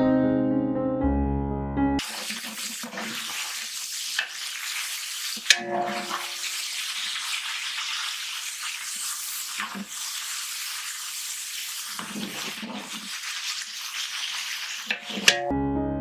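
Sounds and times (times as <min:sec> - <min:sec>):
onions sizzling in oil: 0:02.0 - 0:15.5.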